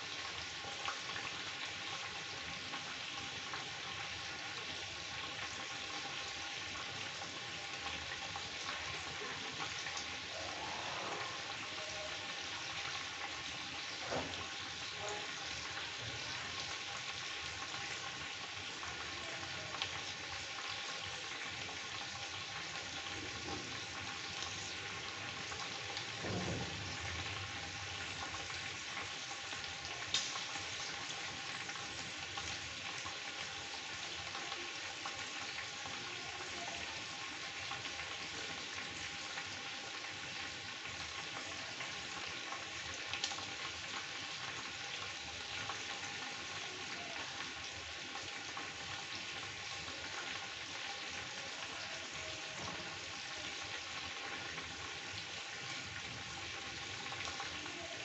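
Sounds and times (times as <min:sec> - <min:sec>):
chicken sizzling in oil: 0:00.0 - 0:58.0.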